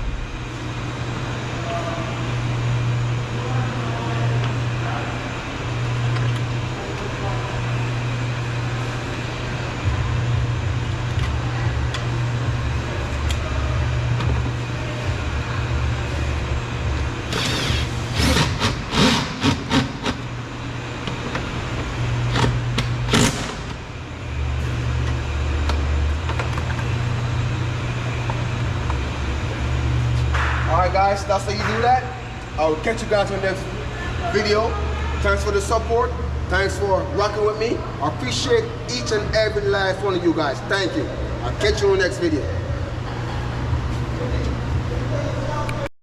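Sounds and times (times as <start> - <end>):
low mechanical hum: 0.0 - 45.9.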